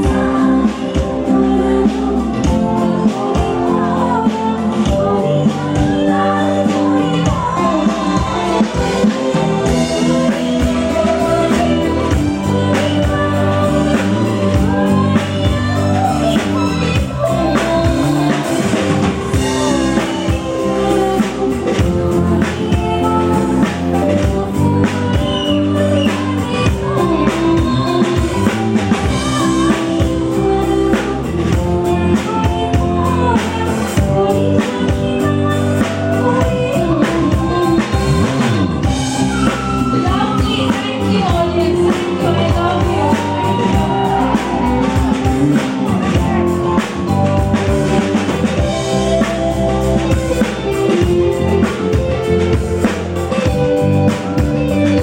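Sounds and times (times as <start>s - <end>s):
live band music: 0.0s - 55.0s
woman singing: 0.0s - 55.0s.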